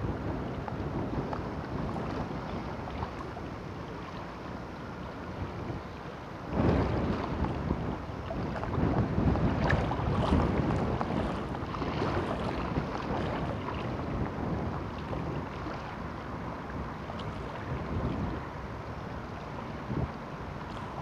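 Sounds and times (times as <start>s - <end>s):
choppy sea: 0.0s - 21.0s
wind buffeting microphone: 0.0s - 21.0s.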